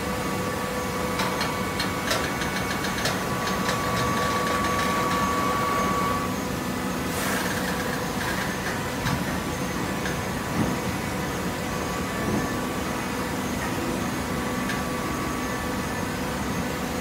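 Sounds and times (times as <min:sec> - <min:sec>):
baler machine humming: 0:00.0 - 0:17.0.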